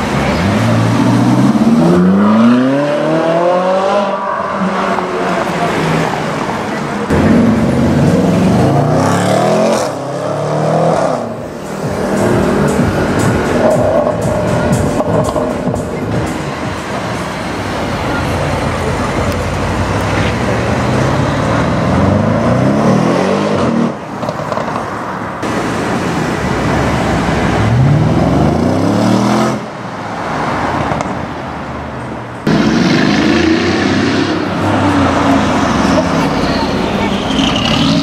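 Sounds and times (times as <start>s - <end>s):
car engines accelerating: 0.0s - 38.0s.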